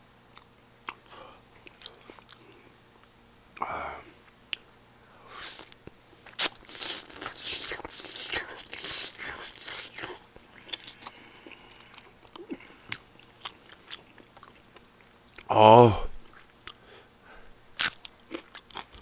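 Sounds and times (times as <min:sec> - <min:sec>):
person chewing and crunching food: 0:00.3 - 0:02.8, 0:03.6 - 0:15.5, 0:16.2 - 0:16.8, 0:17.8 - 0:19.0.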